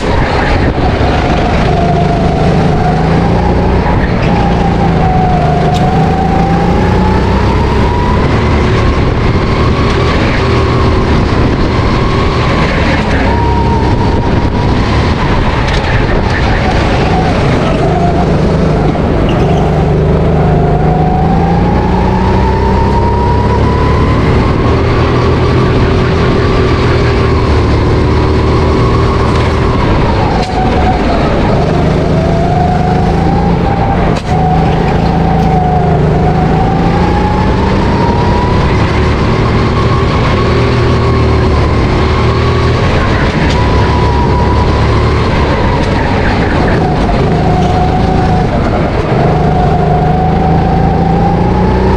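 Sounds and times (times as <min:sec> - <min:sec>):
go-kart engine running: 0:00.0 - 0:51.9.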